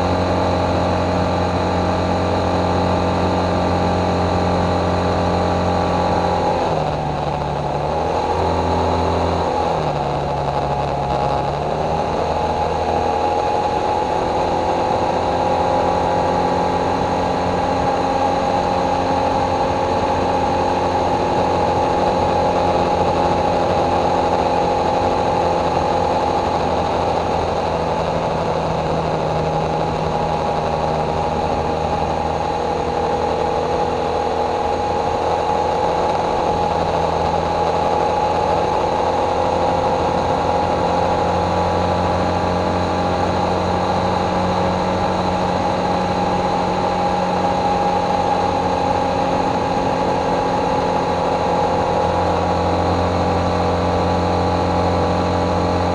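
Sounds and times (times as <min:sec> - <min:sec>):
motorcycle engine running: 0:00.0 - 0:55.9
road and wind noise: 0:00.0 - 0:55.9.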